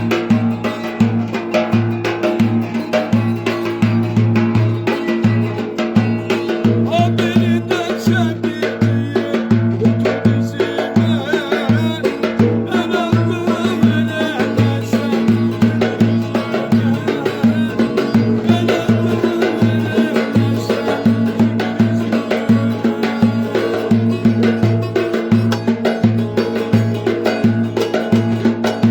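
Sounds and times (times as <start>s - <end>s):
folk dance tune with drum: 0.0s - 28.9s.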